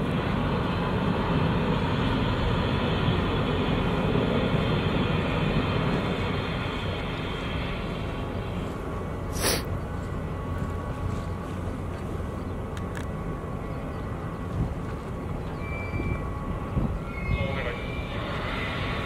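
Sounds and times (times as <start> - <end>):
ship engines rumbling: 0.0 - 19.0.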